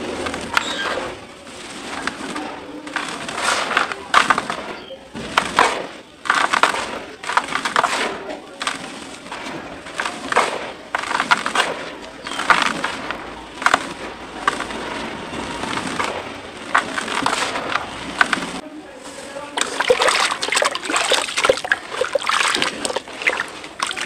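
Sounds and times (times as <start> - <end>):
dry dirt crumbling and pouring: 0.0 - 24.0.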